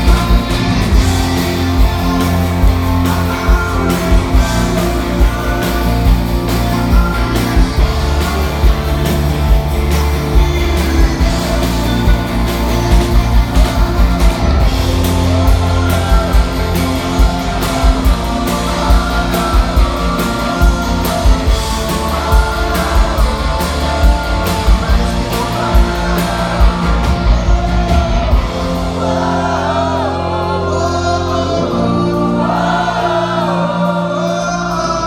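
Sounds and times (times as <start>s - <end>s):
drum beat: 0.0s - 29.2s
bass guitar: 0.0s - 35.0s
electric guitars: 0.0s - 35.0s.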